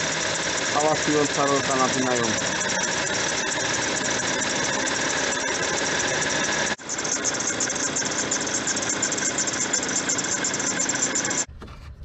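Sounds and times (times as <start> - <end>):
belt pulley howling and squealing: 0.0 - 11.5
petrol engine running: 0.0 - 11.7.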